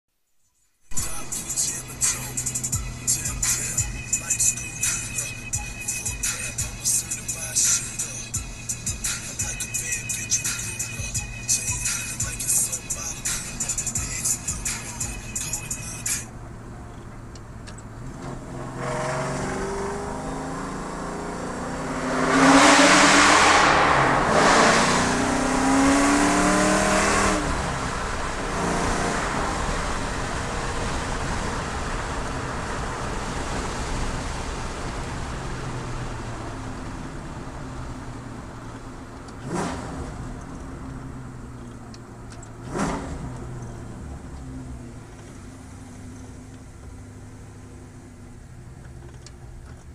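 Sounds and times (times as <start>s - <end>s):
car engine idling: 0.9s - 18.4s, 23.2s - 49.9s
car engine revving: 0.9s - 49.9s.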